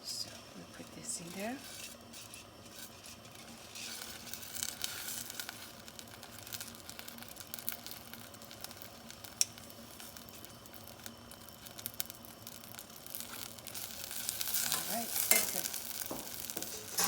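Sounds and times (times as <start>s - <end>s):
berries sizzling in butter and oil: 0.0s - 17.0s.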